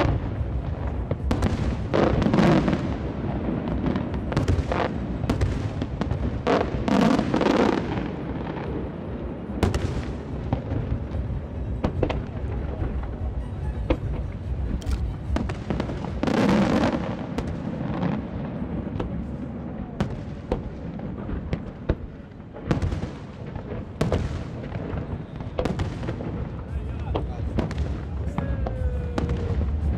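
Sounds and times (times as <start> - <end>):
low rumble of explosions: 0.0 - 29.9.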